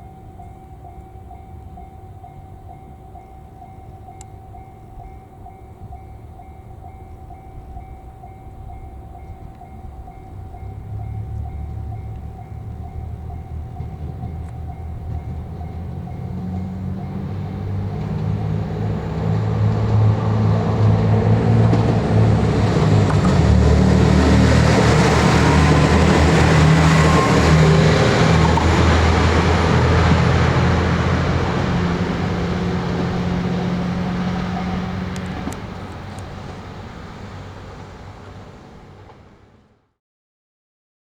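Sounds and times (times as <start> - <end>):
diesel engine drone: 0.0 - 39.6
rushing wheel and rail noise: 0.0 - 39.9.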